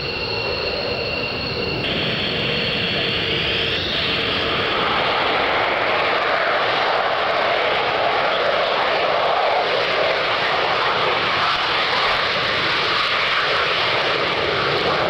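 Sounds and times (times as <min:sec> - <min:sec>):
high turbine whine: 0:00.0 - 0:15.0
jet engine roar: 0:00.0 - 0:15.0.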